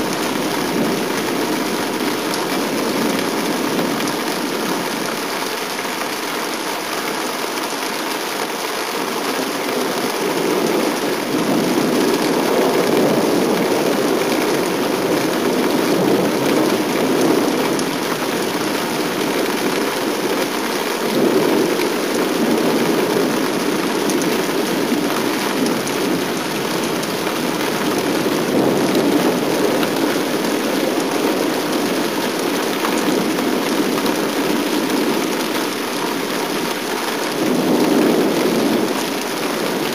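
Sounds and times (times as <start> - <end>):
rolling thunder rumbling: 0.0 - 4.8, 9.9 - 39.9
steady rain: 0.0 - 39.9.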